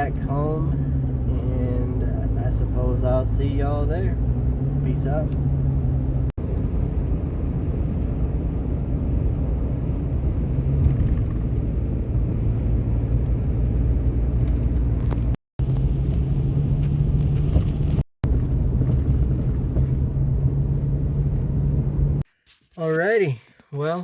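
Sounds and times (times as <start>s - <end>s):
truck engine and road drone: 0.0s - 22.3s.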